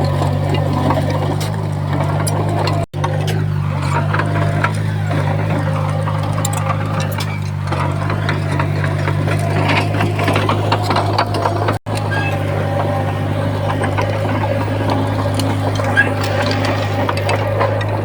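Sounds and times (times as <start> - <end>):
bulldozer diesel engine running: 0.0 - 18.0
clicks and rattles: 0.0 - 18.0.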